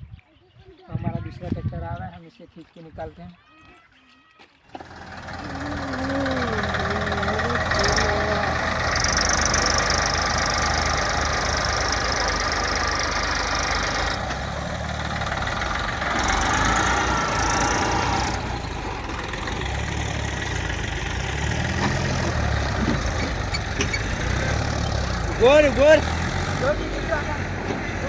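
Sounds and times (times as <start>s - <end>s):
tractor diesel engine chugging: 4.7s - 28.0s.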